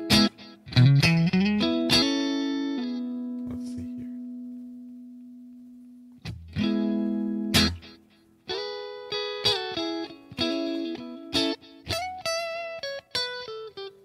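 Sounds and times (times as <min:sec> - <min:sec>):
electric guitar notes and chords: 0:00.0 - 0:14.0.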